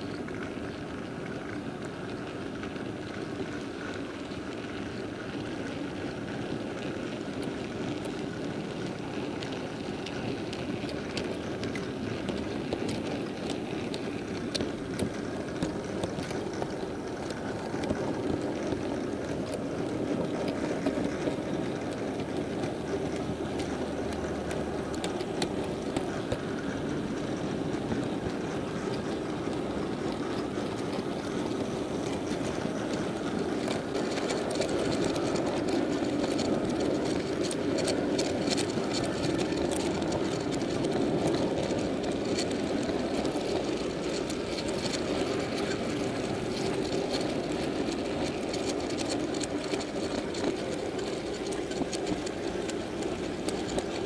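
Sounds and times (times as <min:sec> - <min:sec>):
model train wheels rumbling: 0:00.0 - 0:54.0
wheels clicking over rail joints: 0:00.0 - 0:54.0.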